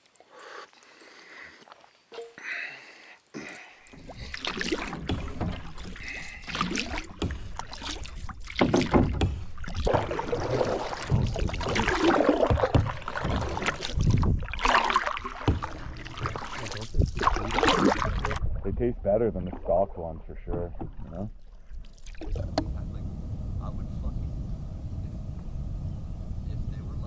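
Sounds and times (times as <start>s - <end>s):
canoe paddling in water: 3.4s - 27.0s.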